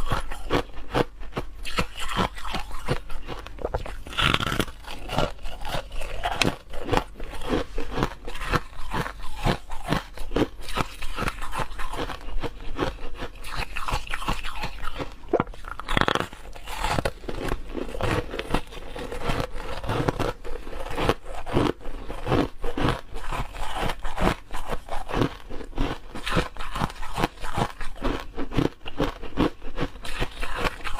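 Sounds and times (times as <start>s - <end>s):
person chewing ice: 0.0s - 30.9s.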